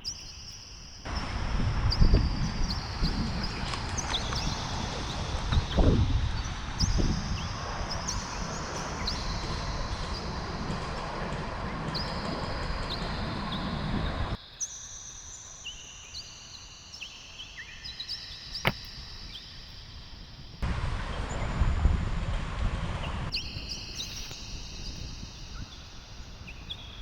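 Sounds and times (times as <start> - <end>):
small birds chirping: 0.0 - 21.7, 23.0 - 27.0
wind buffeting microphone: 1.1 - 14.4, 18.6 - 27.0.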